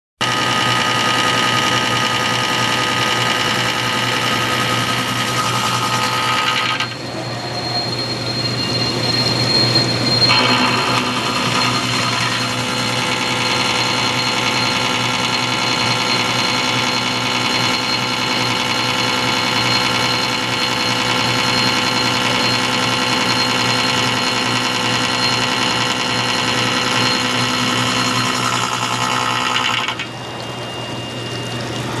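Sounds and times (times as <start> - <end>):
machine hum: 0.2 - 32.0
milling machine cutting whine: 0.2 - 32.0.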